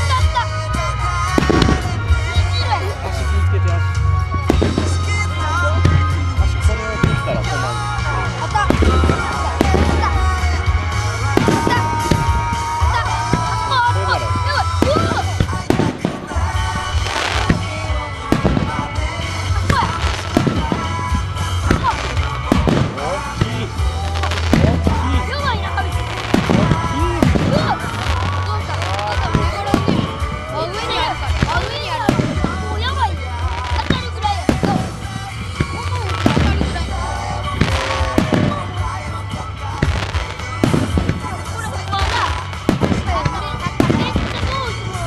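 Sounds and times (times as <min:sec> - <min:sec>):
fireworks bursting: 0:00.0 - 0:45.0
music: 0:00.0 - 0:45.0.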